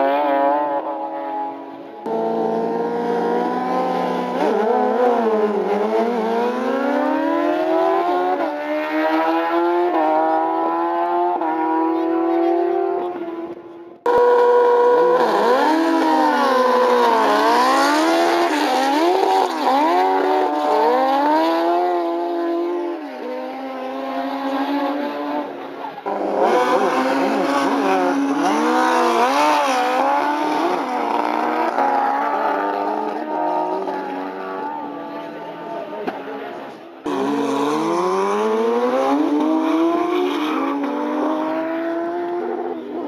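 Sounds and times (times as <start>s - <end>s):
motorcycle engines at full throttle: 0.0s - 43.0s.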